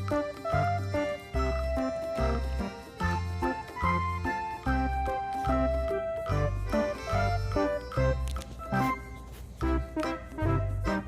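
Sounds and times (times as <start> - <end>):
bouncy keyboard tune with bass beat: 0.0 - 11.0.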